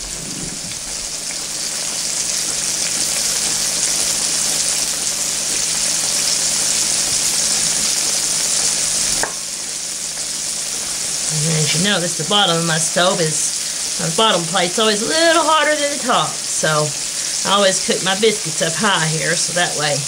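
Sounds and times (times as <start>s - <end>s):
steak sizzling in grease: 0.0s - 20.0s.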